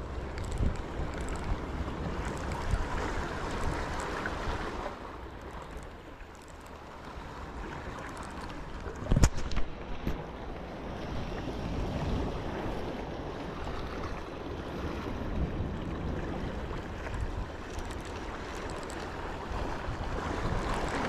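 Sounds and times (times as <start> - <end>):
wind on microphone: 0.0 - 4.8, 7.0 - 21.0
sea waves washing: 0.0 - 21.0.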